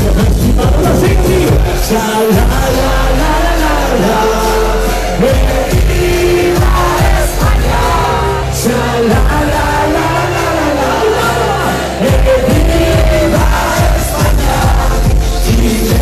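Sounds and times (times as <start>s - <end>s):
heavy dance beat: 0.0s - 16.0s
man singing: 0.0s - 16.0s.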